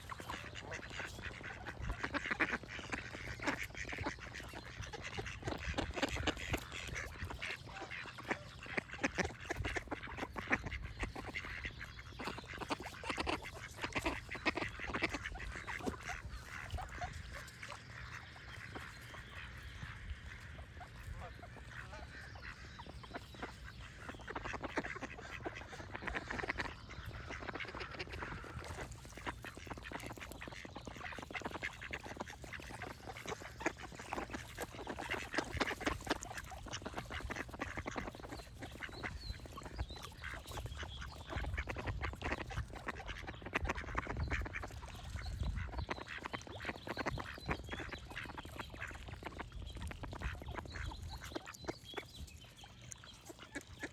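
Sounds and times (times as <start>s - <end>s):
ducks quacking: 0.0s - 53.9s
birds singing: 0.1s - 53.9s.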